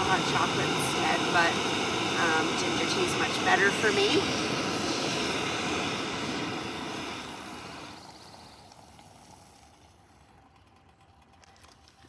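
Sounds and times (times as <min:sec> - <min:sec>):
camp stove burner rushing: 0:00.0 - 0:12.0.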